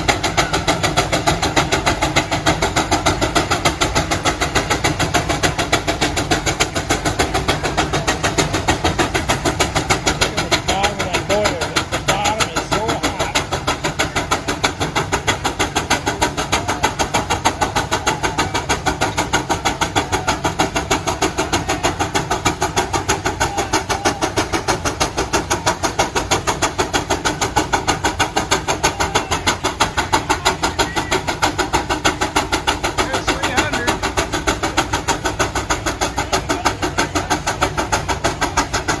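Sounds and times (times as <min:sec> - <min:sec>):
steam engine chuffing: 0:00.0 - 0:39.0.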